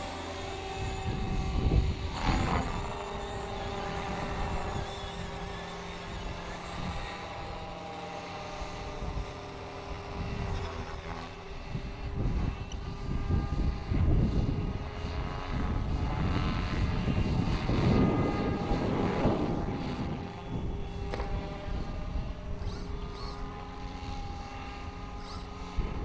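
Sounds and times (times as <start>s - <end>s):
rc helicopter motor whine: 0.0s - 26.0s.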